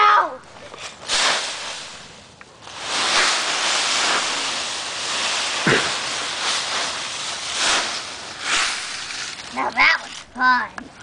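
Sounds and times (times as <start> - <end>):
dry leaves rustling and crunching: 0.6 - 10.3.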